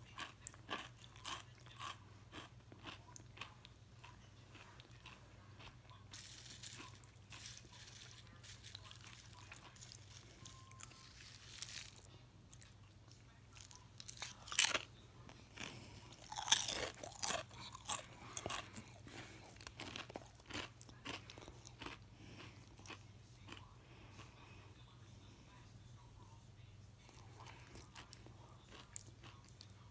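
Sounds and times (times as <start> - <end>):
person crunching crisp chips: 0.0 - 12.8, 13.5 - 14.9, 15.5 - 23.6, 27.4 - 29.8.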